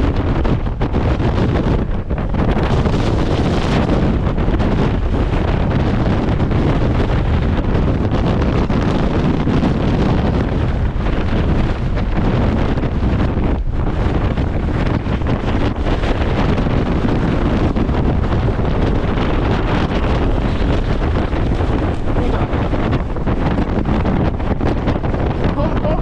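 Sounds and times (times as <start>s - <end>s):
gale wind buffeting microphone: 0.0s - 26.0s.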